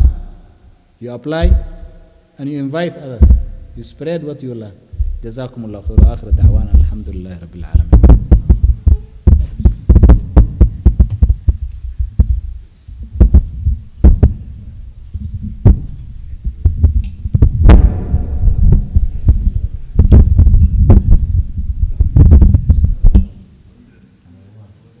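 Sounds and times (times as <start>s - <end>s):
microphone being bumped: 0.0s - 0.5s, 1.4s - 2.0s, 3.2s - 3.8s, 4.9s - 23.5s.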